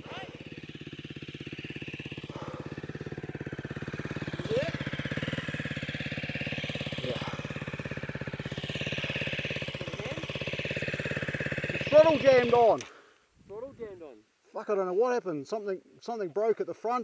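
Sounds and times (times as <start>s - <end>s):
dirt bike engine idling: 0.0s - 14.2s.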